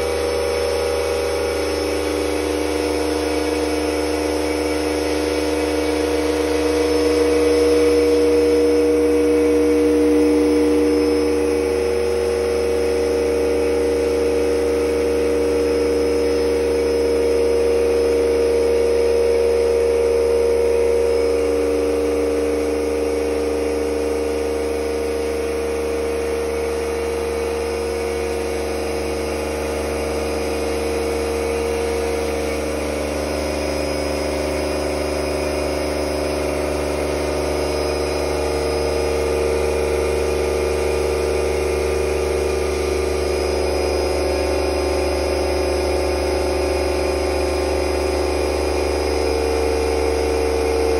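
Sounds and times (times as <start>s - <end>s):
pump motor humming: 0.0s - 50.9s.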